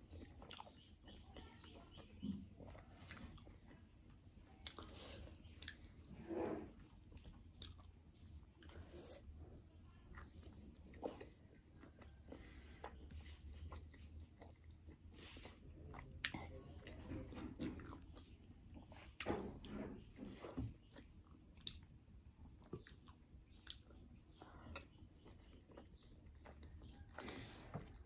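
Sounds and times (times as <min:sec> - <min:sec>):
quiet chewing: 0:00.0 - 0:28.0.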